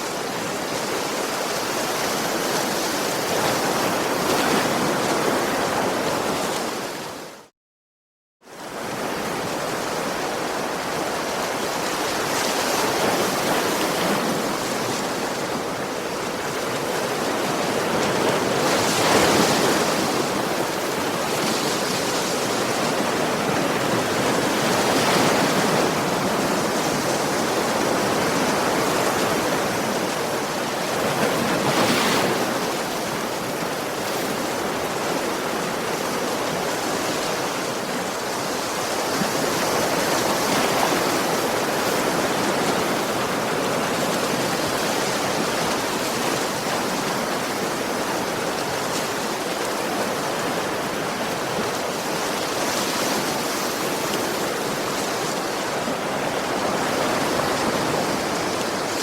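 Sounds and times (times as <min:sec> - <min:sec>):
sea waves breaking on beach: 0:08.6 - 0:59.0.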